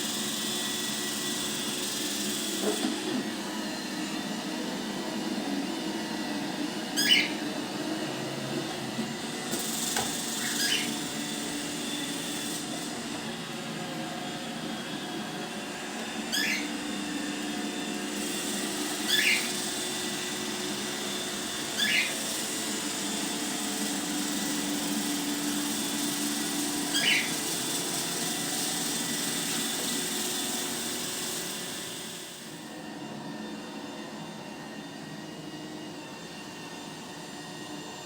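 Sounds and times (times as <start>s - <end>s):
robot vacuum humming: 0.0s - 38.0s.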